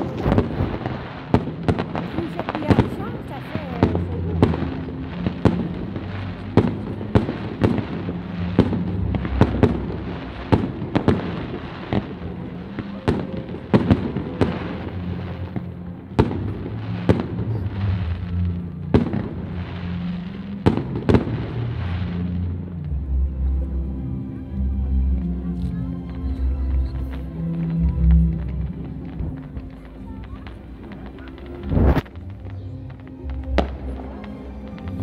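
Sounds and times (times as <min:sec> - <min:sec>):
fireworks bursting: 0:00.0 - 0:23.1, 0:26.2 - 0:35.0.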